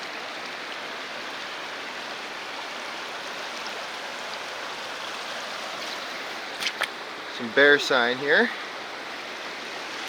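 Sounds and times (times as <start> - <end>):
river current rushing: 0.0 - 10.0.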